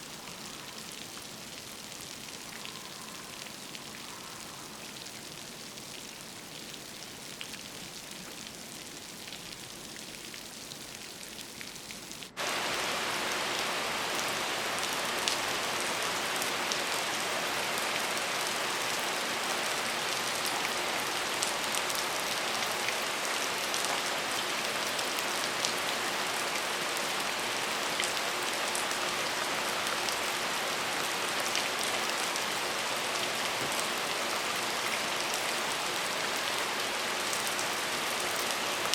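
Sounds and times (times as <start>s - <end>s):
heavy downpour: 0.0s - 38.9s
rain falling on a surface: 0.0s - 38.9s.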